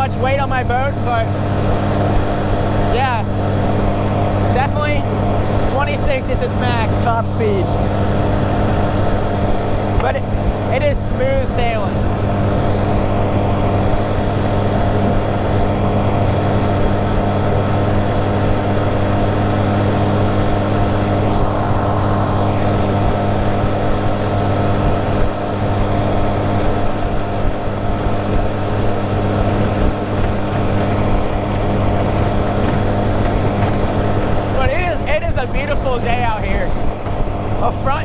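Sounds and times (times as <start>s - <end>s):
outboard motor drone: 0.0s - 38.0s.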